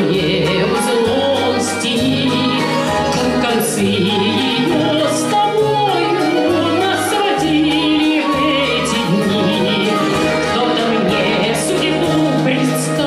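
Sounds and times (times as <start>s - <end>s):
folk string orchestra playing: 0.0s - 13.0s
woman singing: 0.0s - 13.0s.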